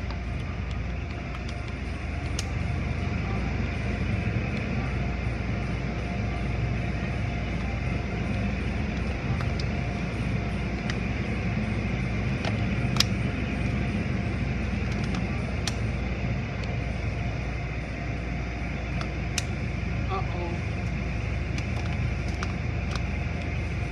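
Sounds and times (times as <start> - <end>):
car wash machinery running: 0.0 - 23.9.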